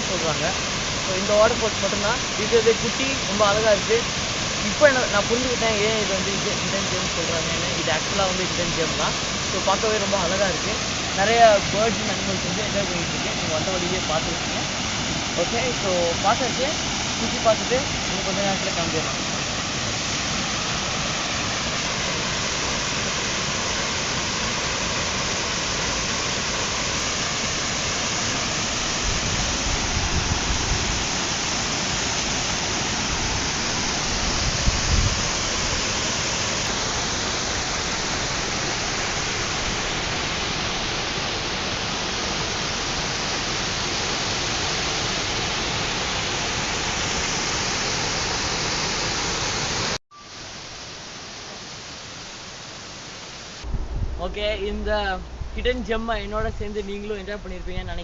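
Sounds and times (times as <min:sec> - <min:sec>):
low water rumbles: 0:00.0 - 0:58.0
waterfall rushing: 0:00.0 - 0:58.0.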